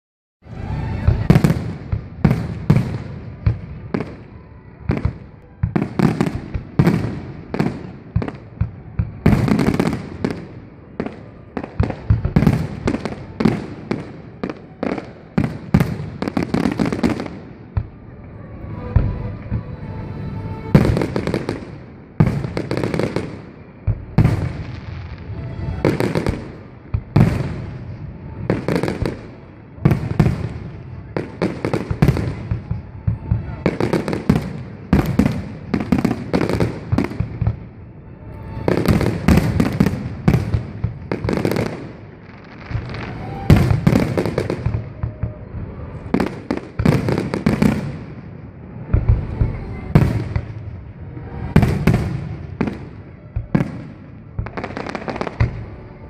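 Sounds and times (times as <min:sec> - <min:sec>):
fireworks booming: 0:00.5 - 0:37.9, 0:38.5 - 0:56.0
fireworks crackle: 0:00.5 - 0:56.0.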